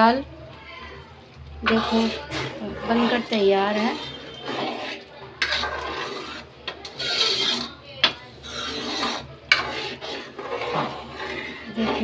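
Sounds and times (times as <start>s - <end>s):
metal ladle scraping a steel pot: 1.6s - 12.0s.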